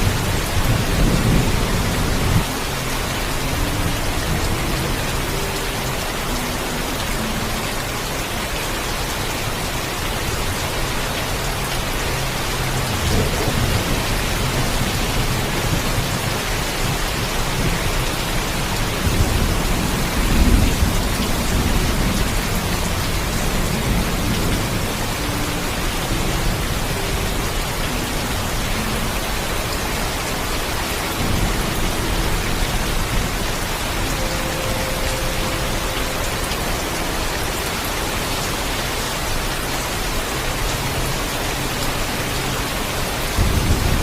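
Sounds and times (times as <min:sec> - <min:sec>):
heavy rain hitting surfaces: 0:00.0 - 0:44.0.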